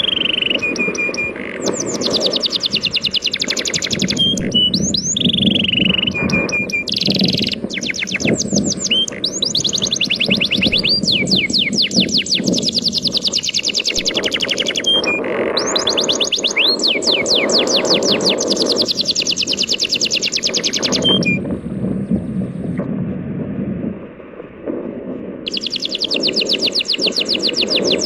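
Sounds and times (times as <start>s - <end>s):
songbird trilling whistled notes: 0.0s - 21.4s, 25.5s - 28.0s.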